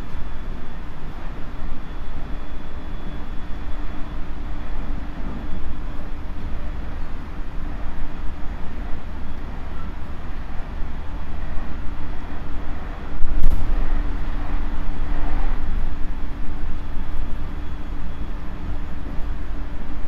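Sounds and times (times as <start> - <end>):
low hum: 0.0 - 20.0
train wheels rumbling on rails: 0.0 - 20.0.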